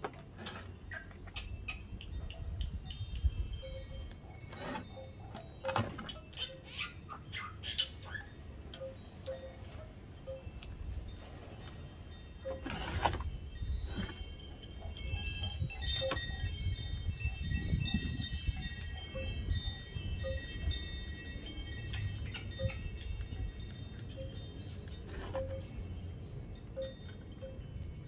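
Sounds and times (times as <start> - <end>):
chimes ringing: 0.0 - 7.4, 8.2 - 28.0.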